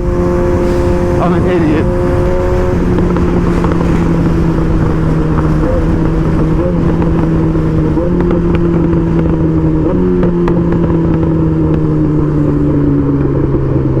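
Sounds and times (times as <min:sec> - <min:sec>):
motorcycle engine drone: 0:00.0 - 0:14.0
wind rush: 0:00.0 - 0:14.0.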